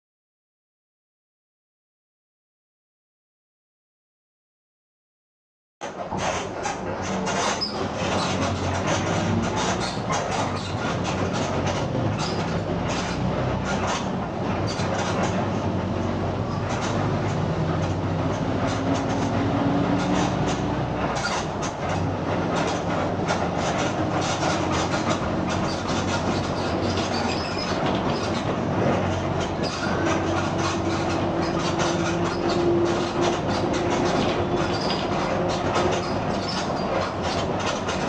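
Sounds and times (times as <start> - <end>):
bus engine driving: 5.8 - 38.0.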